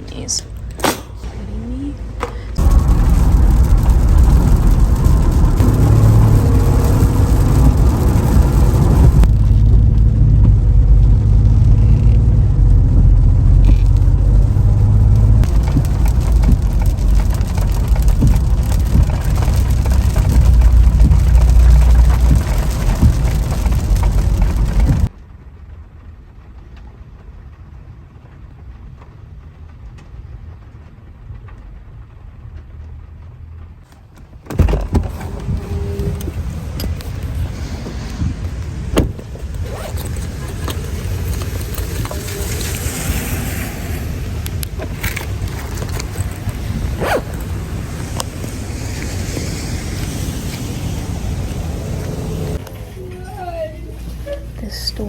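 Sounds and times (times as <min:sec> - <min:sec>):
car driving rumble: 0:00.0 - 0:25.4, 0:27.3 - 0:55.0.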